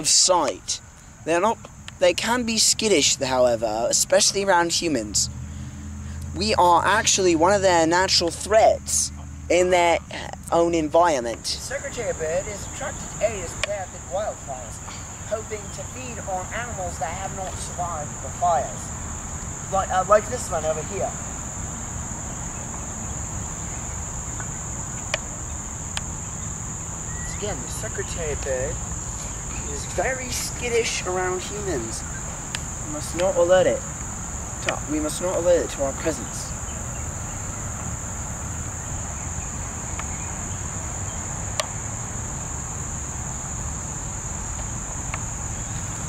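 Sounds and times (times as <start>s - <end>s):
crickets chirring: 0.0s - 46.0s
high-pitched insect chorus: 0.0s - 46.0s.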